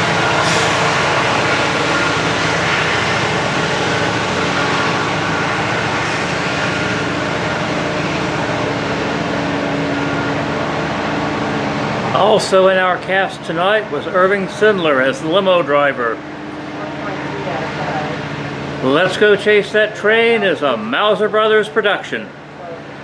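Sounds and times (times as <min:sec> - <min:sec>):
freight train rumbling past: 0:00.0 - 0:21.3
locomotive drone: 0:00.0 - 0:23.0.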